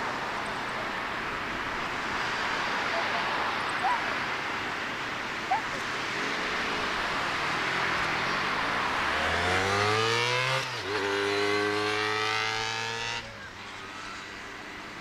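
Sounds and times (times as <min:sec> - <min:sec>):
road vehicle engine: 0:00.0 - 0:15.0.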